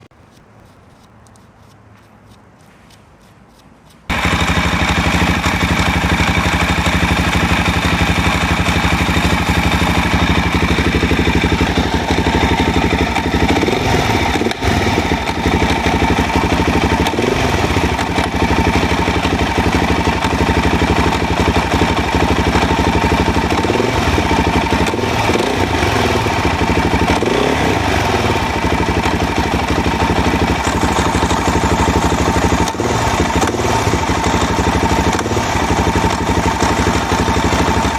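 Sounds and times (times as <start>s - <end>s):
motorcycle engine running: 3.5s - 37.9s.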